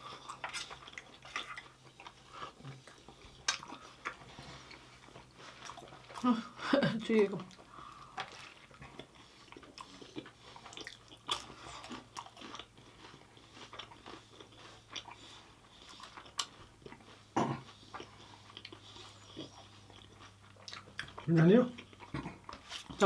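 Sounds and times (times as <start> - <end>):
chewing and biting food: 0.0 - 23.0.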